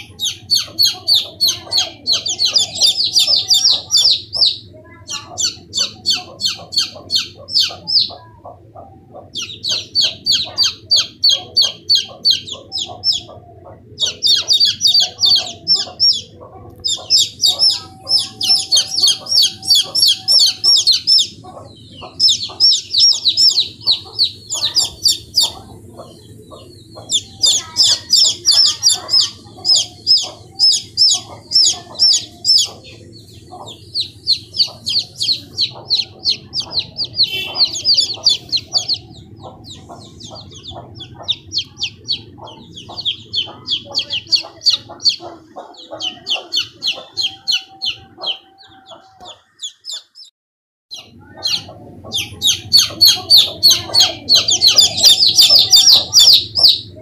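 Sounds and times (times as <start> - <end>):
chicks peeping: 0.0 - 50.3, 50.9 - 57.0.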